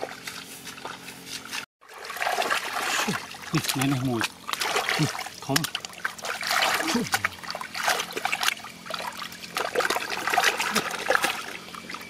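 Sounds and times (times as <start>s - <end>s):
hands splashing in muddy water: 0.0s - 12.0s.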